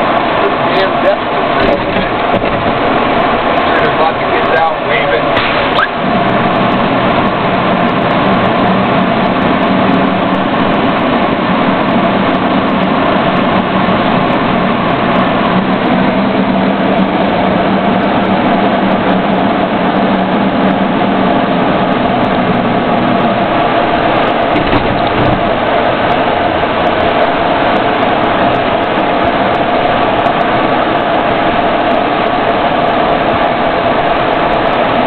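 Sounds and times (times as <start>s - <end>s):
road noise: 0.0s - 35.0s
vehicle engine drone: 0.0s - 35.0s.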